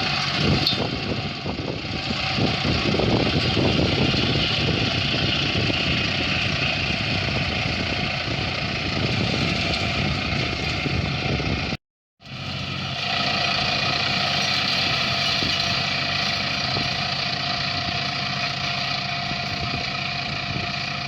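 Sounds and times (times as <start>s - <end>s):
motor running steadily: 0.0s - 21.0s.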